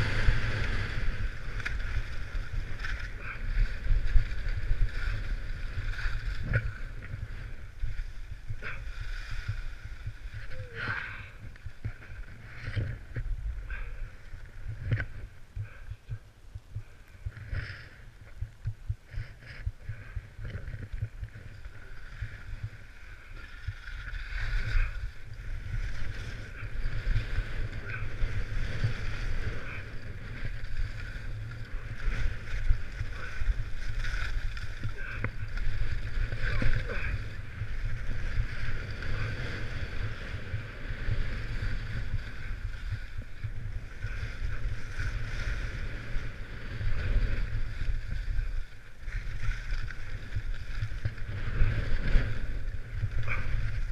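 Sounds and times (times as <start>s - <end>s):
skis carving over snow: 0.0s - 16.2s, 16.8s - 53.9s
wind buffeting microphone: 0.0s - 53.9s.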